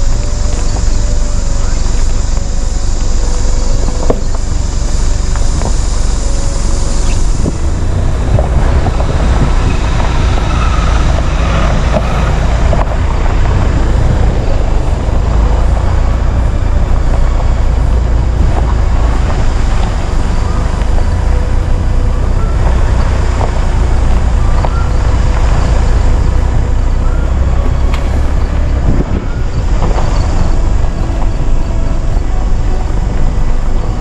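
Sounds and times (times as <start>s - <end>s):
loud low rumble: 0.0s - 34.0s.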